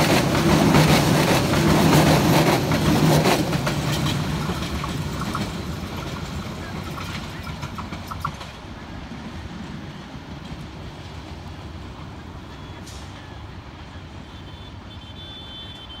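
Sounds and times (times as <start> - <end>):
train rumbling: 0.0 - 14.6.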